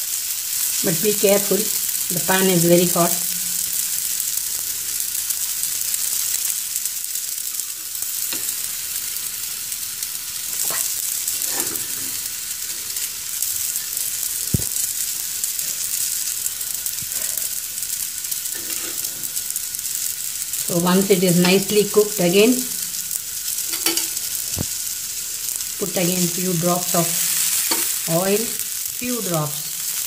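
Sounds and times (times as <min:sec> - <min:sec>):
vegetables sizzling in a frying pan: 0:00.0 - 0:30.0.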